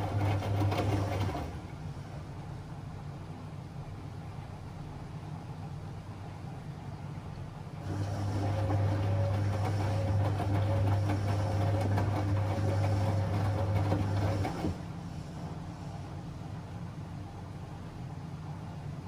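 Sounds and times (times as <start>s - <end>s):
washing machine humming and rattling: 0.0s - 19.0s.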